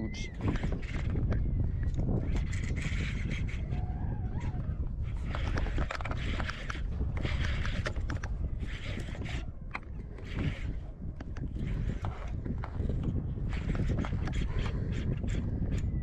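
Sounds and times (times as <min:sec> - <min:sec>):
microphone handling noise: 0:00.0 - 0:16.0
wind rumble: 0:00.0 - 0:16.0
fishing reel drag crackling: 0:00.3 - 0:16.0.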